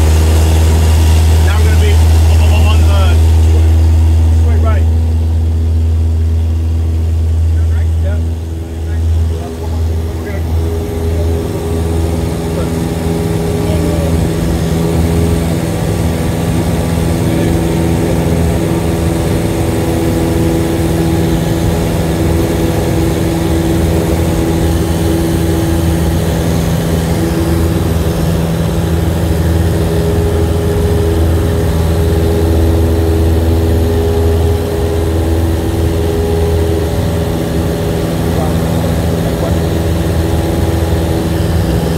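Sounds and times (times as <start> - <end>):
airplane engine and propeller drone: 0.0 - 41.9.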